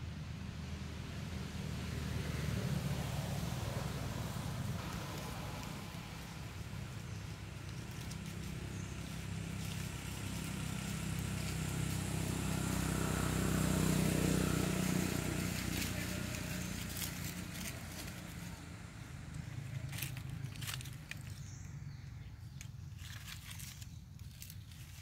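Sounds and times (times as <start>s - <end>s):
motor vehicle passing: 0.0s - 25.0s.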